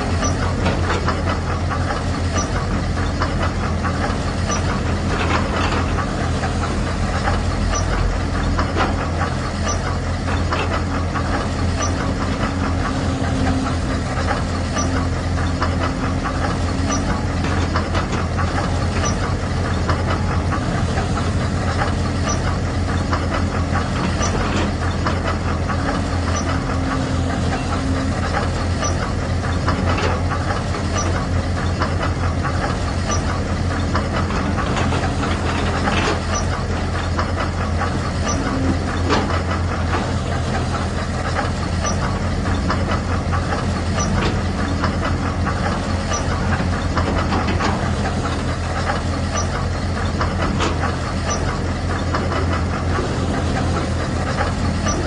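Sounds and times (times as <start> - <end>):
diesel engine chugging: 0.0 - 55.0.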